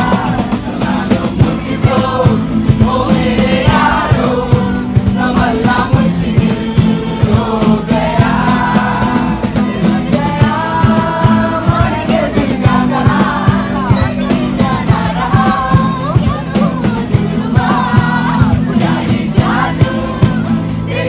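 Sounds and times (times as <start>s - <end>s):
strummed acoustic guitars: 0.0s - 21.0s
young men singing together: 0.0s - 21.0s.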